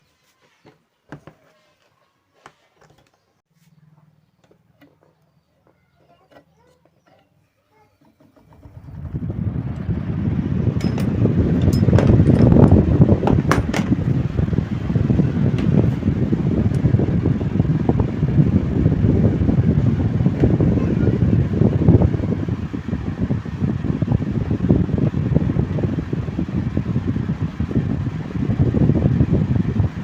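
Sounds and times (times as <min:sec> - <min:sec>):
electric fan spinning: 0:03.8 - 0:30.0.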